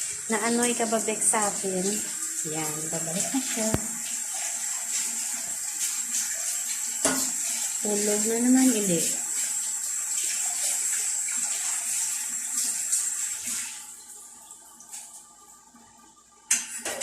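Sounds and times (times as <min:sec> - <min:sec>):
water running: 0:00.0 - 0:17.0.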